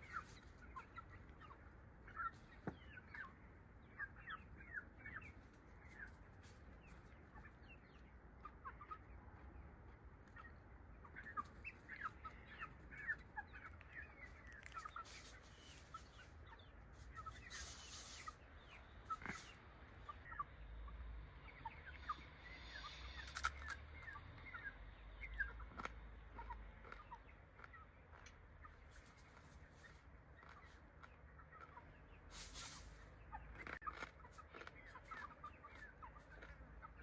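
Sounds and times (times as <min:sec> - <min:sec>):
chickens clucking: 0:00.0 - 0:37.0
small birds chirping: 0:00.0 - 0:37.0.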